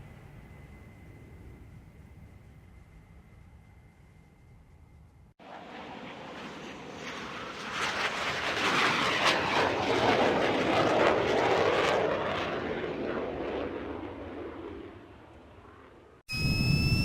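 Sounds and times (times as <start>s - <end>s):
airplane flying overhead: 0.0s - 17.0s.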